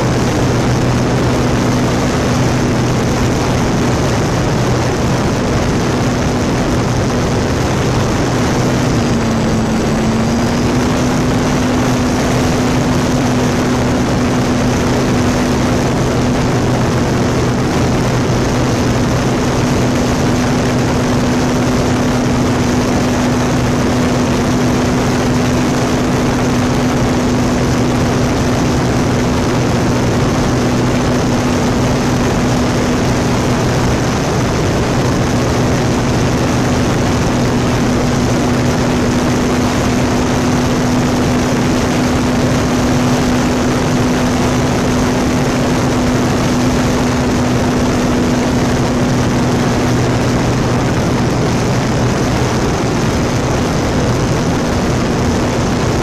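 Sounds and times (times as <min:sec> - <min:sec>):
electric propeller drone: 0:00.0 - 0:56.0
wind rushing over microphone: 0:00.0 - 0:56.0.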